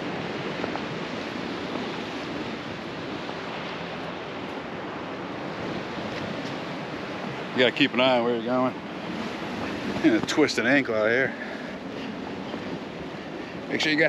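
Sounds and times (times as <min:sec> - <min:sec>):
surf washing over rocks: 0:00.0 - 0:14.0
wind on microphone: 0:00.0 - 0:14.0.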